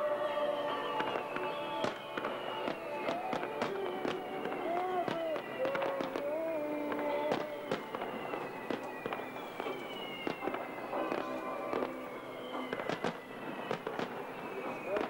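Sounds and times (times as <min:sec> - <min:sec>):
music: 0:00.0 - 0:06.2, 0:07.3 - 0:15.0
fireworks bangs and crackles: 0:00.0 - 0:15.0.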